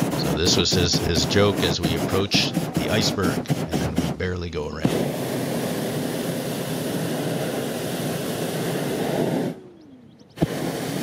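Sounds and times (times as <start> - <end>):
propane burner blast: 0.0 - 11.0.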